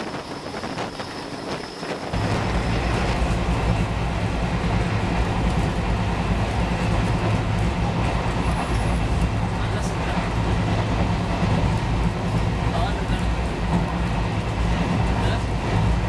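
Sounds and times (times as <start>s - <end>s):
low rumble of train coach: 0.0s - 16.0s
wind buffeting microphone: 0.0s - 16.0s.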